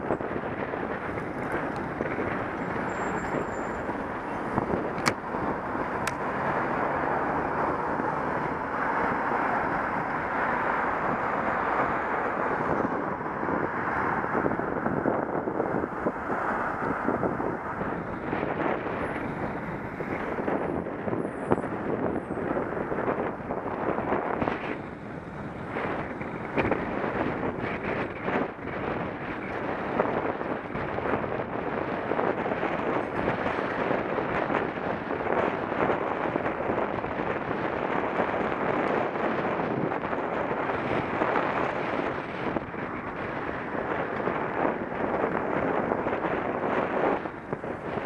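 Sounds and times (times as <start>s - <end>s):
wind on microphone: 0.0s - 48.0s.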